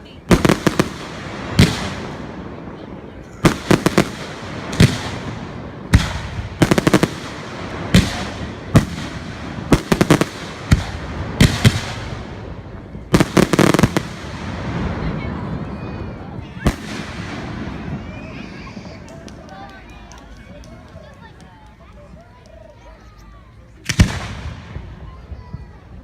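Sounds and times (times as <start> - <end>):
fireworks exploding: 0.0 - 20.4, 23.8 - 25.9.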